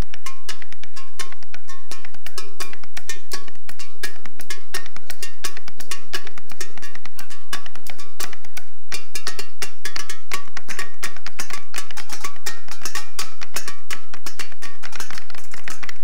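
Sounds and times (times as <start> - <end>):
knives striking steel bowls: 0.0 - 16.0.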